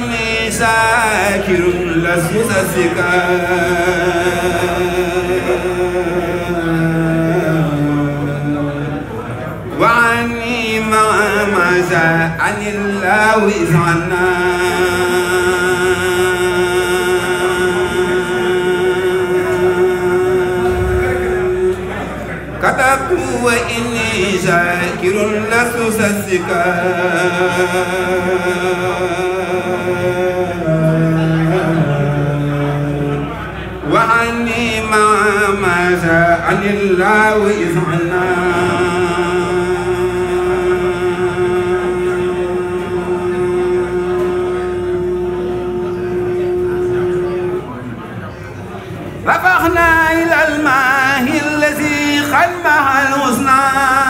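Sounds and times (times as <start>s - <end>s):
man chanting into a microphone: 0.0s - 47.9s, 49.2s - 54.0s.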